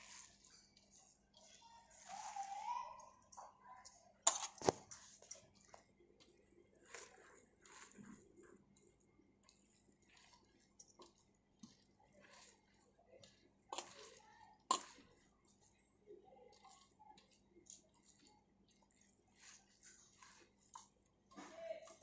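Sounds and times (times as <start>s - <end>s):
wet squishing and rustling: 0.0s - 22.0s.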